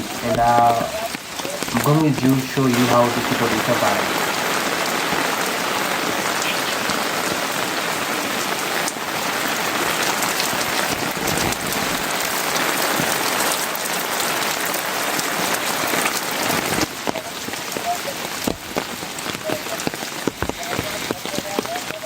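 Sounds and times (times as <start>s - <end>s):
heavy rain hissing: 0.0s - 22.0s
raindrops ticking: 0.0s - 22.0s.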